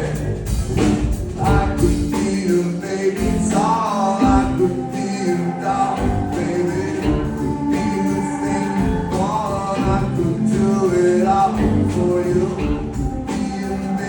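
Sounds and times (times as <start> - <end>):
live band playing: 0.0 - 14.0
person singing: 0.0 - 14.0.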